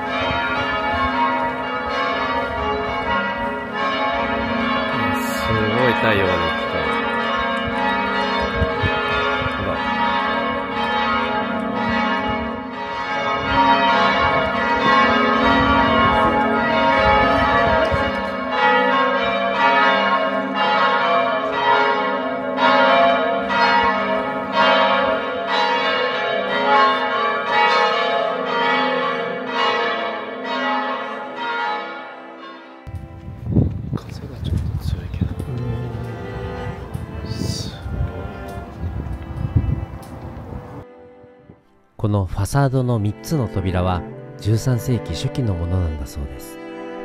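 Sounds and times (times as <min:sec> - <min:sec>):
church bells pealing: 0:00.0 - 0:40.9, 0:42.6 - 0:47.0.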